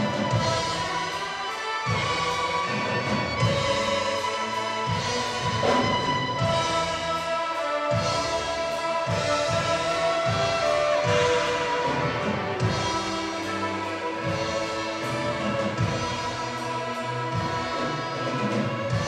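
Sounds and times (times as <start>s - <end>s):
string orchestra playing: 0.0s - 19.0s
violins bowing held notes: 0.0s - 19.0s.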